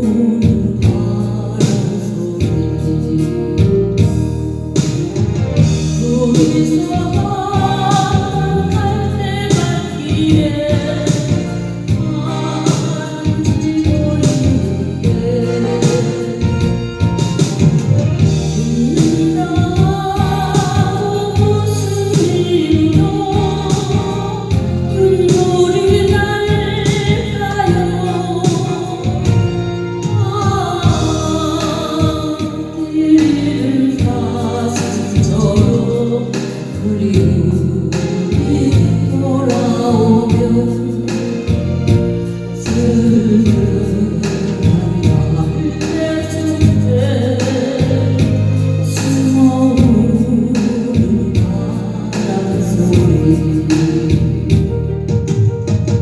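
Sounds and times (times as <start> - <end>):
sung melody over a beat: 0.0 - 56.0.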